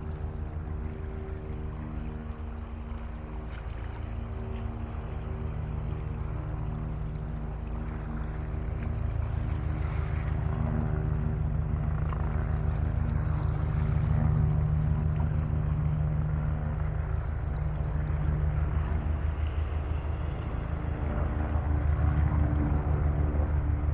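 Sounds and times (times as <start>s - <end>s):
boat engine droning: 0.0s - 23.9s
wind and water wash: 0.0s - 23.9s.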